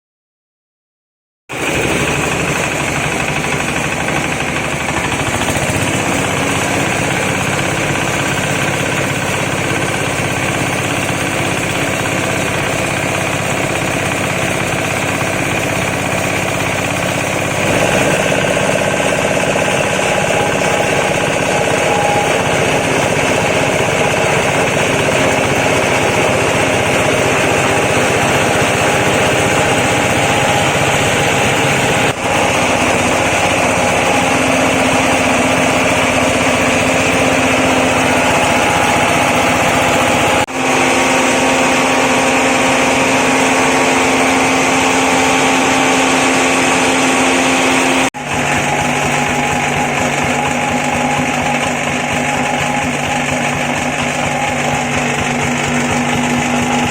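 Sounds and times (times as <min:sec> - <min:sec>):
flour mill mechanical drone: 0:01.5 - 0:56.9.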